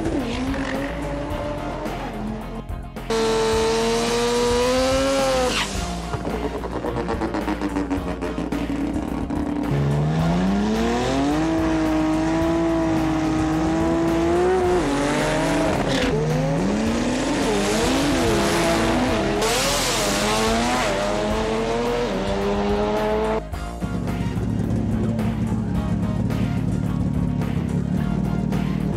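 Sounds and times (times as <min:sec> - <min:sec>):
racing car engine revving: 0:00.0 - 0:23.5.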